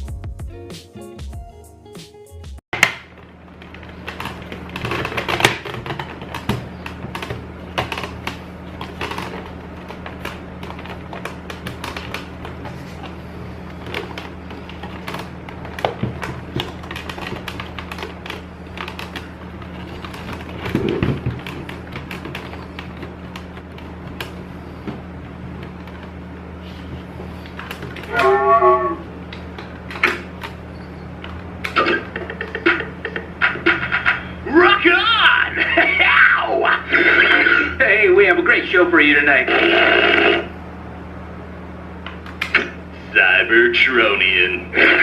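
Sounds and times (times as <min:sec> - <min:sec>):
low electrical hum: 0:02.8 - 0:45.0.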